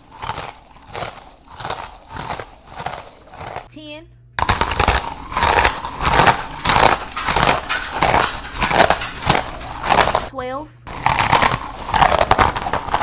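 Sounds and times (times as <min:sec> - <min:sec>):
tortilla chips crunching: 0:00.0 - 0:03.7, 0:04.4 - 0:10.3, 0:10.9 - 0:13.0.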